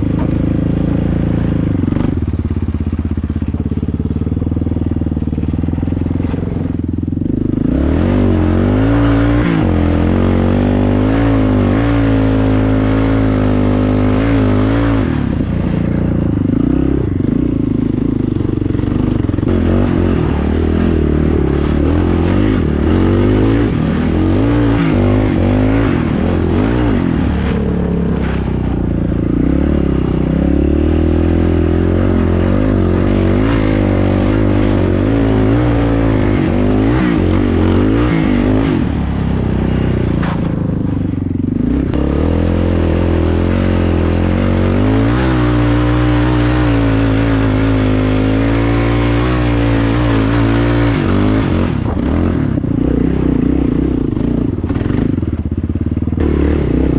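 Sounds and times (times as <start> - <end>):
quad engine revving: 0.0 - 56.9.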